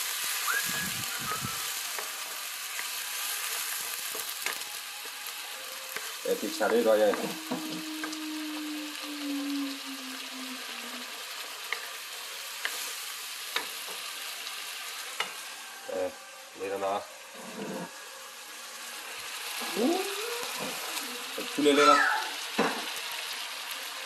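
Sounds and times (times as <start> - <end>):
sauce sizzling in a wok: 0.0 - 24.0.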